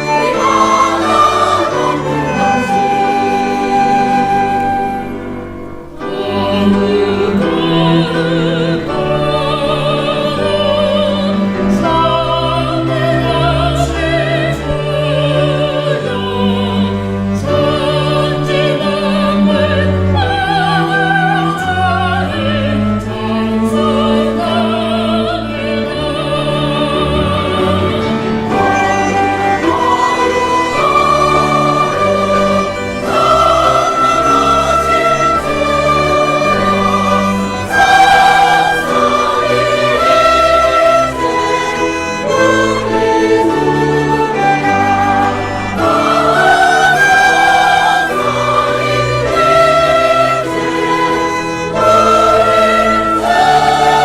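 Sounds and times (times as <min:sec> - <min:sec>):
choir singing with vibrato: 0:00.0 - 0:54.0
sustained instrumental accompaniment: 0:00.0 - 0:54.0.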